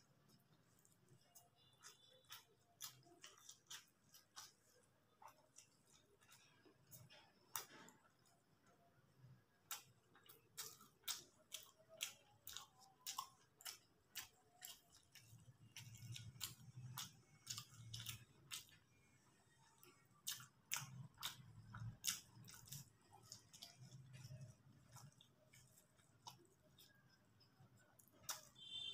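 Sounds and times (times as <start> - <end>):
chewing with wet mouth clicks: 0.1 - 28.8.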